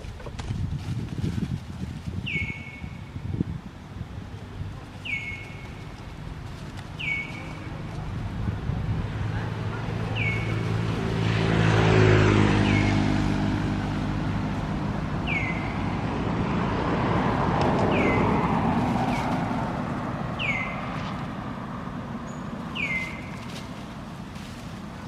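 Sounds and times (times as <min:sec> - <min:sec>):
traffic noise: 0:00.0 - 0:25.0
vehicle passing: 0:04.4 - 0:25.0.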